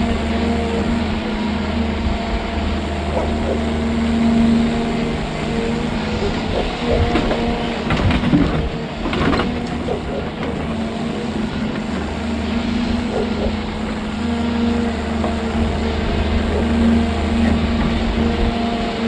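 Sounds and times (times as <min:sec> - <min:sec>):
construction machinery engine hum: 0:00.0 - 0:19.0.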